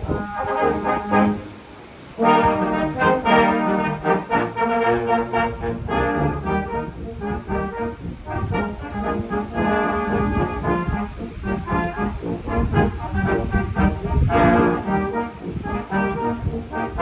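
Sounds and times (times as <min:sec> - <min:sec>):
brass instruments playing melody: 0:00.0 - 0:17.0.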